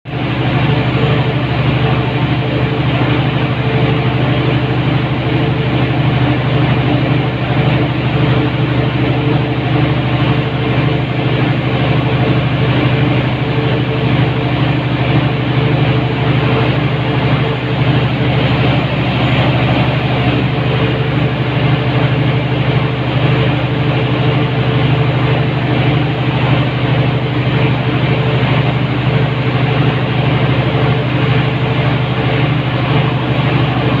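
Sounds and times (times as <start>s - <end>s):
generator engine drone: 0.1s - 34.0s.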